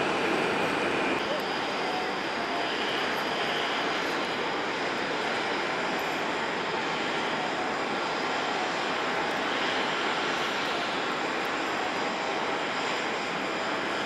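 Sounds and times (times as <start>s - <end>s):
jet engines rushing: 0.0s - 14.0s
faint high whine: 0.1s - 14.0s.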